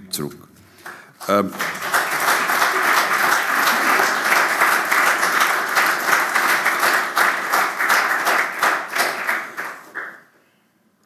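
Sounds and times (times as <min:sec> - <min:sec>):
audience applauding: 0:00.8 - 0:10.3.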